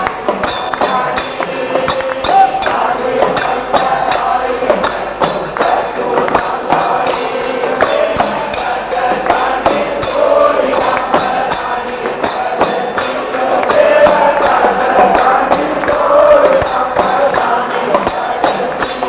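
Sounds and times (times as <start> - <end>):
jingling hand percussion: 0.0 - 19.0.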